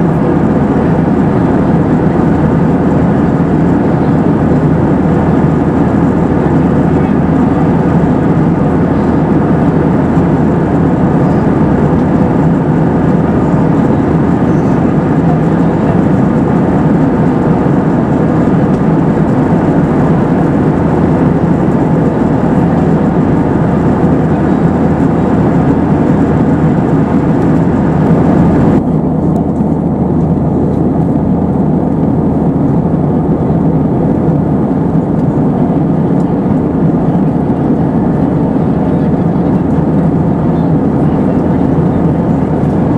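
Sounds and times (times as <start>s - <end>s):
airliner cabin noise: 0.0s - 42.9s.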